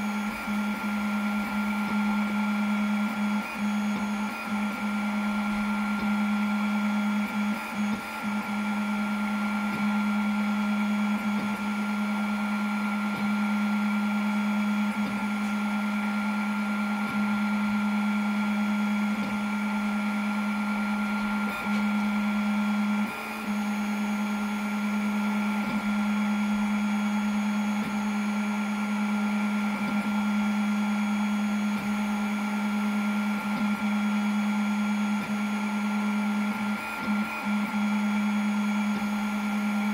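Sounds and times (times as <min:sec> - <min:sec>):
laser engraver machine hum: 0:00.0 - 0:39.9.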